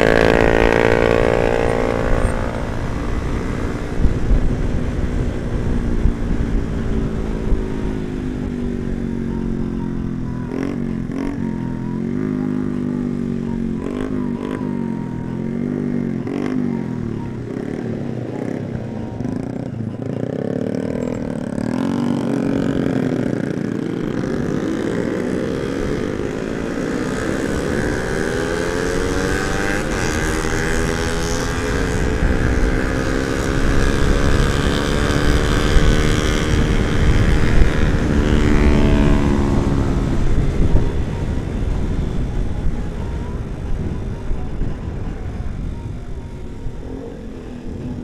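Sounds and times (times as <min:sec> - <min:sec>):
motorcycle engine accelerating: 0:00.0 - 0:48.0
wind rumbling on microphone: 0:00.0 - 0:48.0.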